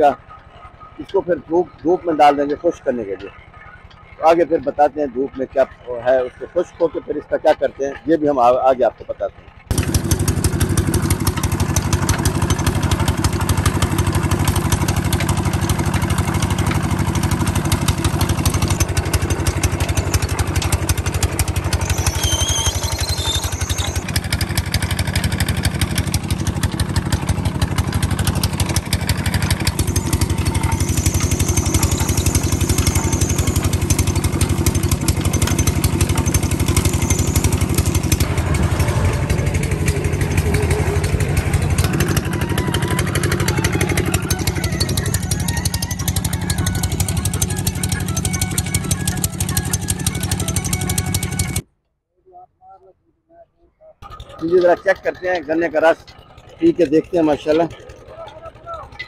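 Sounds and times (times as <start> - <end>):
engine running with fast beat: 0.0 - 51.7, 54.0 - 59.0.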